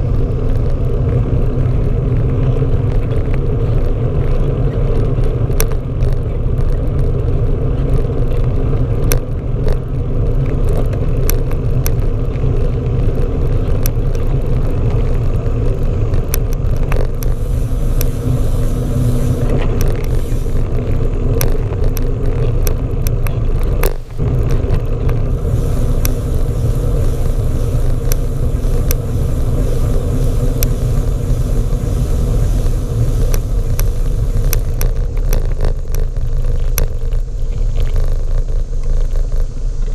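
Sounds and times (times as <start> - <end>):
bicycle clicks and rattles: 0.0 - 39.9
road rumble: 0.0 - 39.9
wind noise: 0.0 - 39.9.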